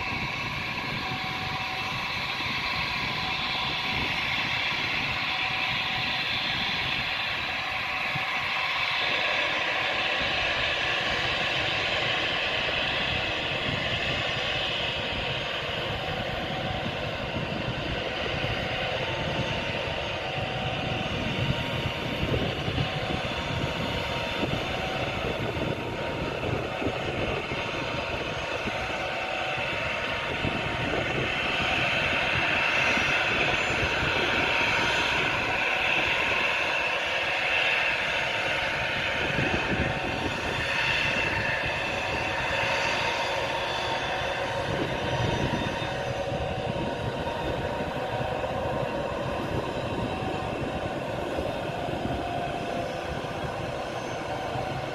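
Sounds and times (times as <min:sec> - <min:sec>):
jet engines whining: 0:00.0 - 0:54.9
wind buffeting microphone: 0:00.0 - 0:54.9.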